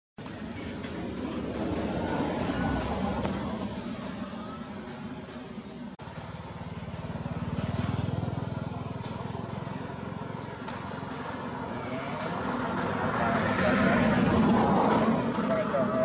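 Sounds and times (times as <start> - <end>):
motor engine running: 0.3 - 16.0.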